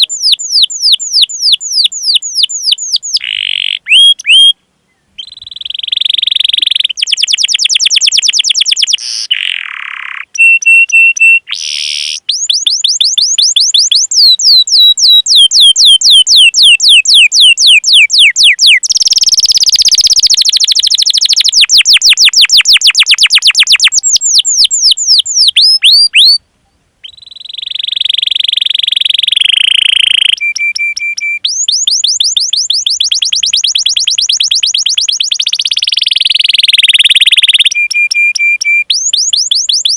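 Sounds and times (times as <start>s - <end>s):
canary singing: 0.0s - 4.6s, 5.2s - 26.4s, 27.0s - 39.9s.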